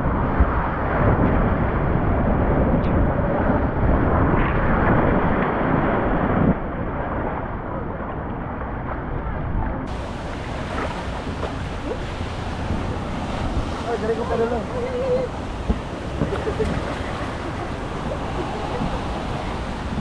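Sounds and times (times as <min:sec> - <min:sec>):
water rushing along a slide: 0:00.0 - 0:20.0
wind buffeting microphone: 0:00.0 - 0:20.0.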